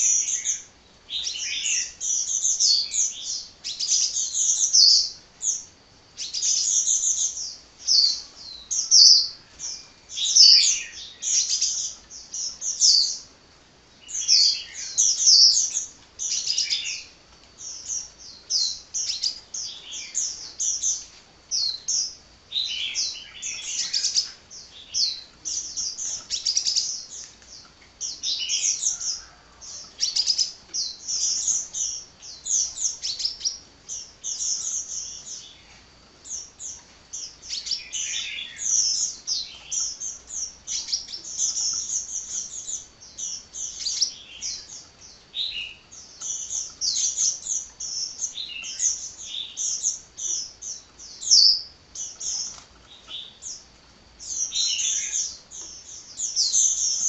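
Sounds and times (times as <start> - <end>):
bird chirping and trilling: 0.0 - 13.3, 14.0 - 57.0.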